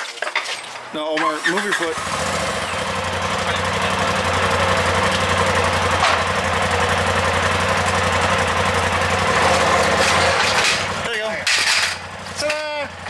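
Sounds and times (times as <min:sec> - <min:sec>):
vehicle engine idling: 0:01.4 - 0:13.0.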